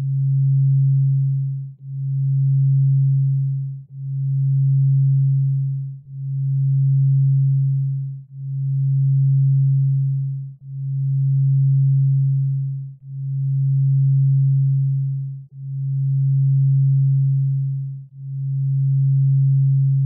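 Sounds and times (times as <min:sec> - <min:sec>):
low pulsing electronic tone: 0:00.0 - 0:20.0.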